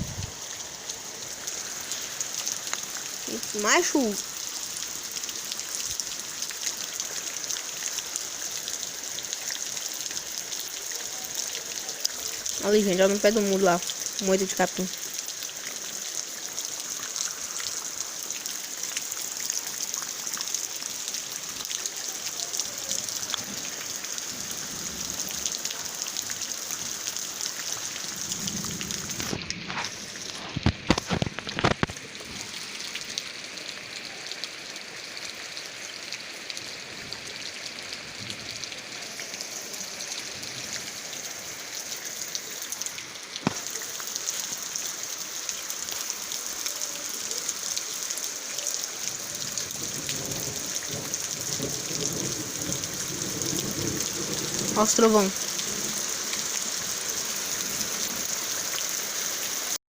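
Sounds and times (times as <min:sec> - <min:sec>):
steady rain falling: 0:00.0 - 0:59.8.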